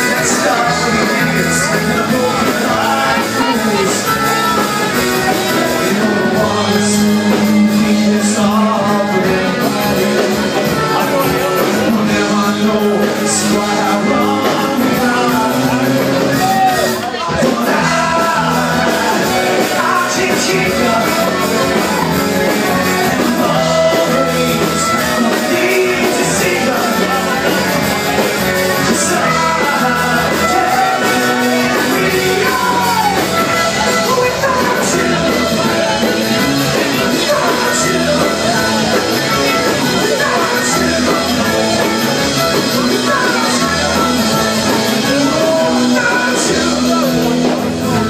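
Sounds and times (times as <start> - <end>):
live rock band playing: 0.0 - 48.0
person singing: 0.0 - 48.0.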